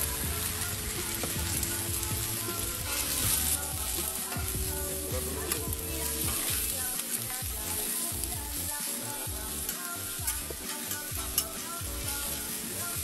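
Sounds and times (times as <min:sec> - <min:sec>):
metal spatula scraping griddle: 0:00.0 - 0:13.0
vegetables sizzling on griddle: 0:00.0 - 0:13.0.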